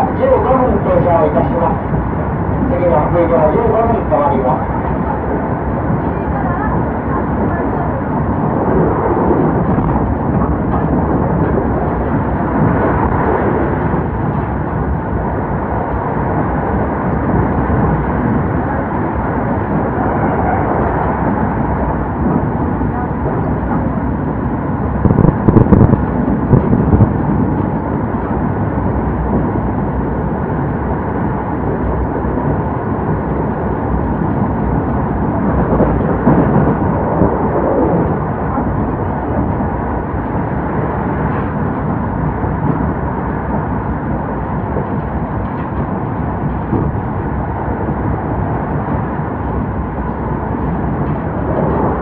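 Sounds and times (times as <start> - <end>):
wheels rumbling on rail: 0.0 - 52.0.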